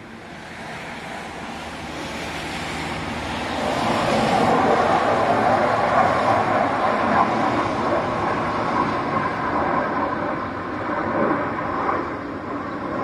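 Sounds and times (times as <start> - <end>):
jet fighter flying past: 0.0 - 13.0.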